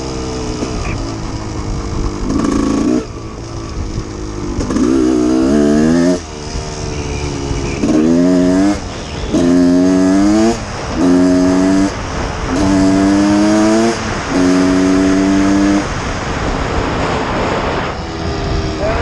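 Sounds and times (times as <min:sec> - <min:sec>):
two-stroke engine revving: 0:00.0 - 0:16.2.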